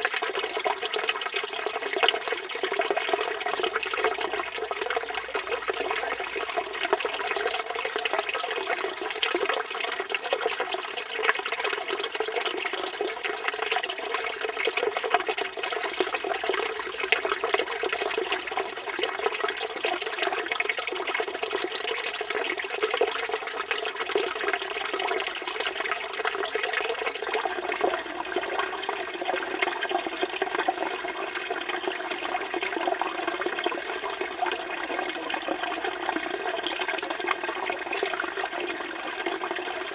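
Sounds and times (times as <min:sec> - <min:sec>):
fountain water splashing into basin: 0:00.0 - 0:39.9.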